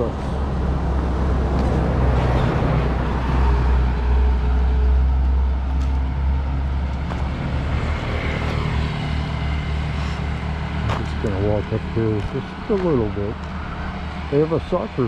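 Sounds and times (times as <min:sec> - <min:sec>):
truck passing by: 0:00.0 - 0:15.0.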